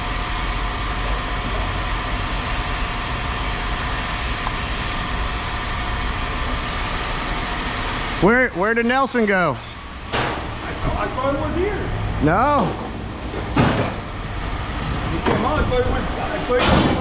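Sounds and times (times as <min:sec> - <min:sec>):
machinery rumbling: 0:00.0 - 0:17.0.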